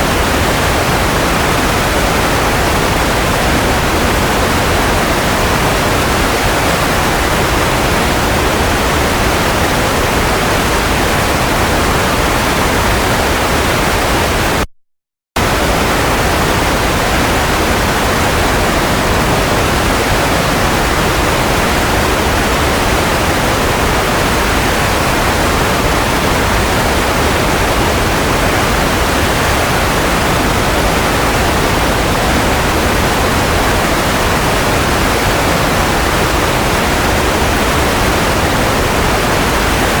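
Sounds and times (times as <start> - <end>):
white noise hiss: 0.0 - 14.2, 15.4 - 40.0.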